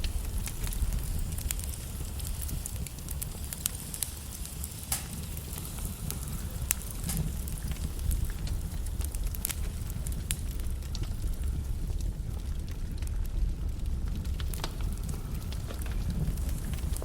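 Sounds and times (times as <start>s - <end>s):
logs burning in fireplace: 0.0s - 17.0s.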